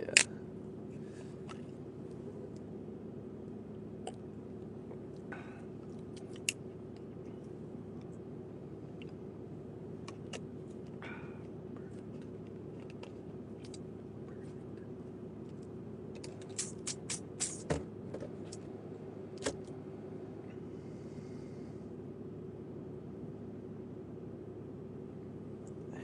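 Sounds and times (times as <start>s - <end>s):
low hum inside truck cabin: 0.0s - 26.0s.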